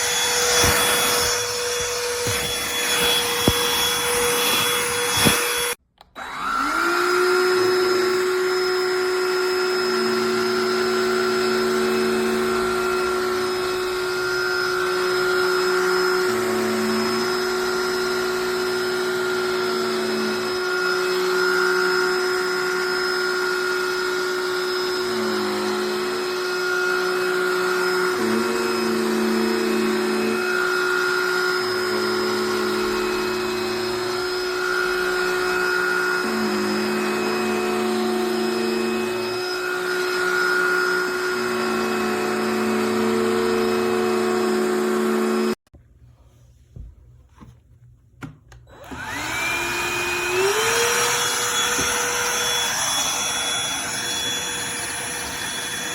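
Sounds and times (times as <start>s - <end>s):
handheld vacuum motor whine: 0.0s - 45.6s, 48.7s - 55.9s.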